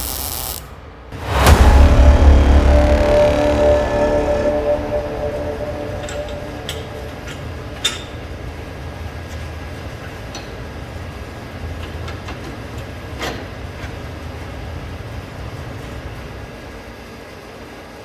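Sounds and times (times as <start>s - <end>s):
low workshop rumble: 0.0s - 16.1s.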